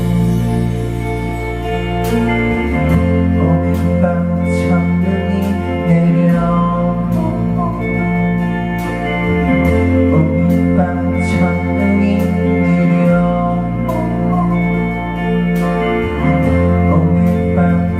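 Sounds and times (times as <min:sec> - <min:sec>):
live band music: 0:00.0 - 0:17.9.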